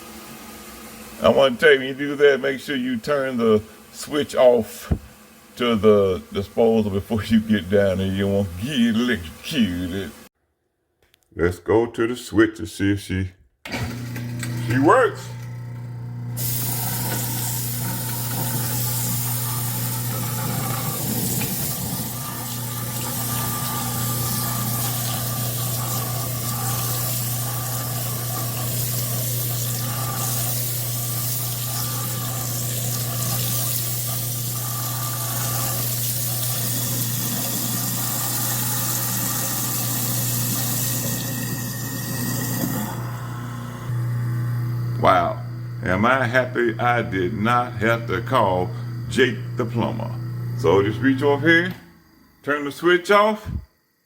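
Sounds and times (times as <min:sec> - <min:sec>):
garbage disposal running: 0:00.0 - 0:10.3, 0:13.6 - 0:52.2.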